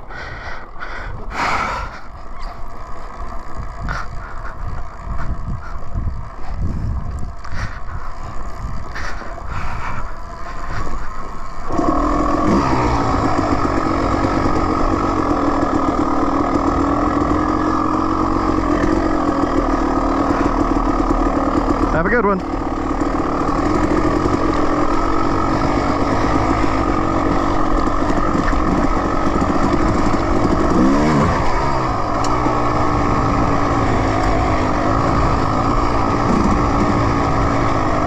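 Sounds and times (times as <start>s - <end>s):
dirt bike engine at low revs: 0.0s - 38.0s.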